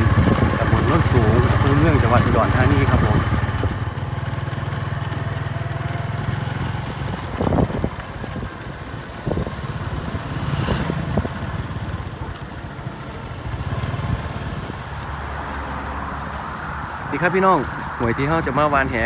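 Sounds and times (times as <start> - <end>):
small motorcycle engine: 0.0 - 15.6, 16.2 - 19.0.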